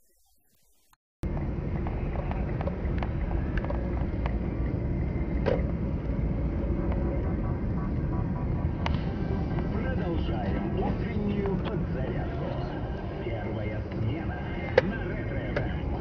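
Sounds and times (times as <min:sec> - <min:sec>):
car road and engine rumble: 0:01.2 - 0:16.0.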